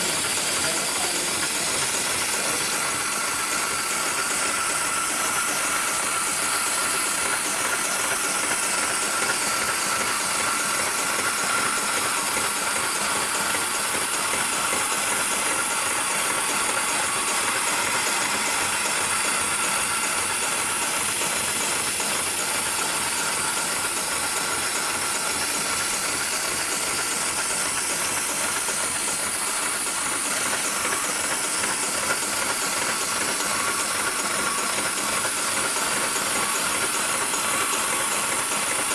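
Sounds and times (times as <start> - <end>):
industrial sewing machine running: 0.0 - 38.9.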